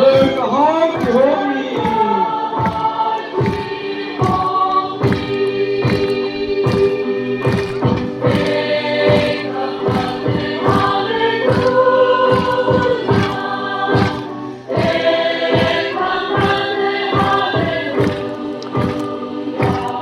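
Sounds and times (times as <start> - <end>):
choir singing long notes: 0.0 - 20.0
steady drum beat: 0.0 - 20.0.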